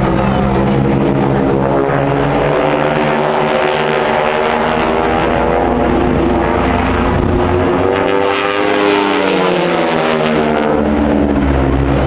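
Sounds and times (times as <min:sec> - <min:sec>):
propeller planes droning overhead: 0:00.0 - 0:12.0.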